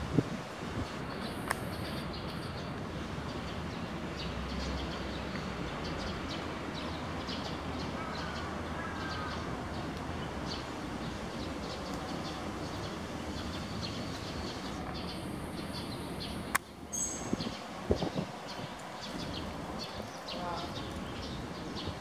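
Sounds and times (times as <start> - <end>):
distant city rumble: 0.0 - 22.0
small birds chirping: 1.0 - 22.0.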